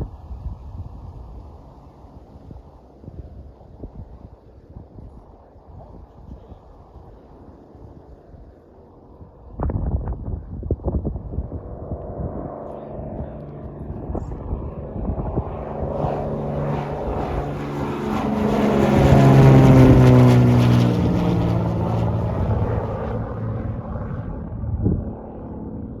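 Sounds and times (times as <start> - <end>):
propeller airplane passing: 0.0 - 26.0.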